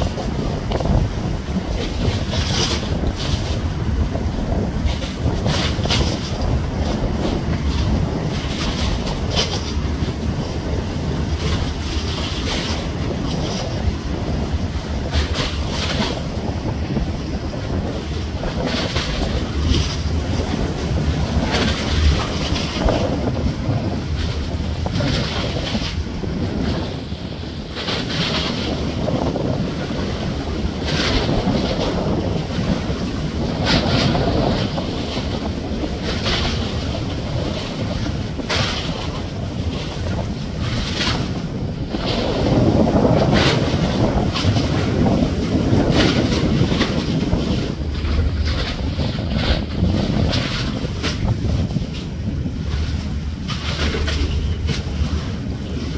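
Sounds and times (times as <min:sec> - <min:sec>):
ship low rumble: 0:00.0 - 0:55.9
wake and waves splashing: 0:00.0 - 0:55.9
wind buffeting microphone: 0:00.0 - 0:55.9.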